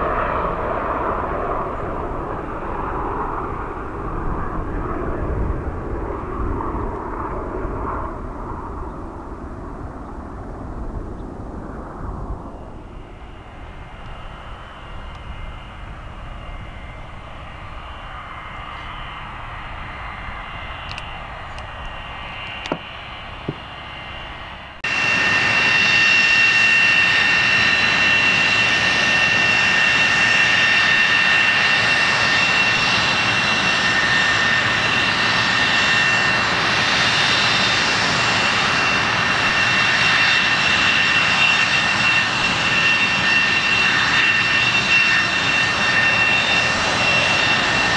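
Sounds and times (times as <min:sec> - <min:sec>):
aircraft engine with faint whine: 0:00.0 - 0:47.9
jet engine with piercing whine: 0:00.0 - 0:47.9.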